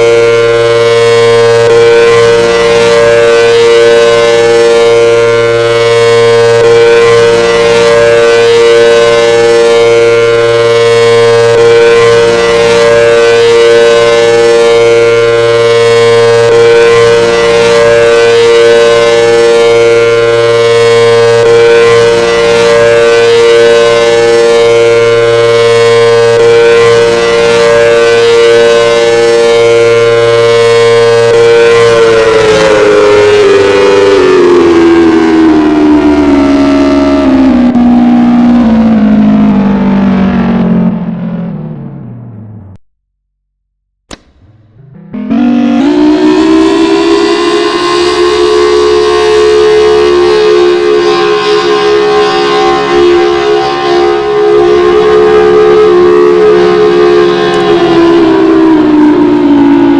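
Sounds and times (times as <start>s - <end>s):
pulsing low hum: 0.0s - 42.8s, 44.1s - 59.9s
warning siren steady tone: 0.0s - 42.8s, 44.1s - 59.9s.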